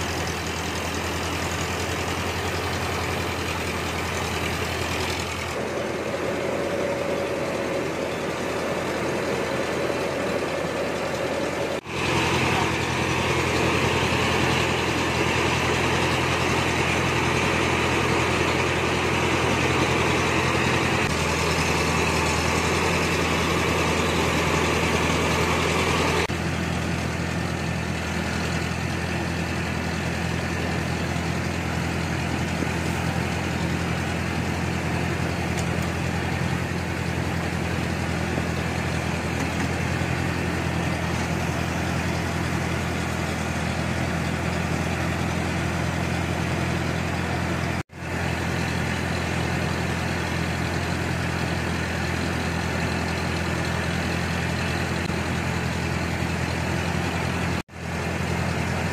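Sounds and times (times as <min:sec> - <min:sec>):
rice milling machine drone: 0:00.0 - 0:58.9.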